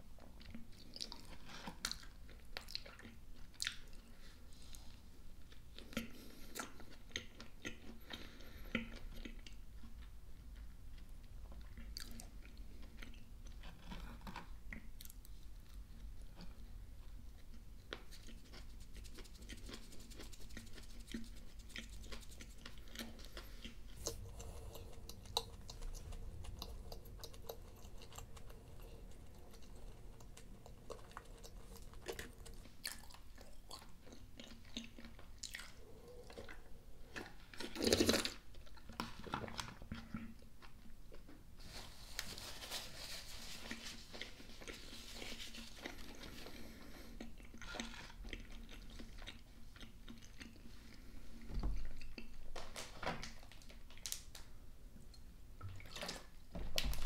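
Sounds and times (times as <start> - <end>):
chewing food: 0.1 - 41.6, 43.6 - 56.4.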